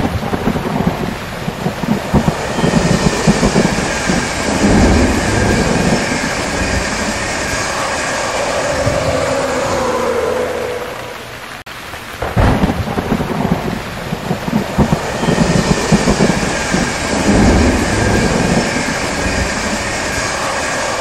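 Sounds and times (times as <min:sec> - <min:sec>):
low rumble: 0:00.0 - 0:11.6, 0:12.5 - 0:20.8
steady rain: 0:00.0 - 0:21.0.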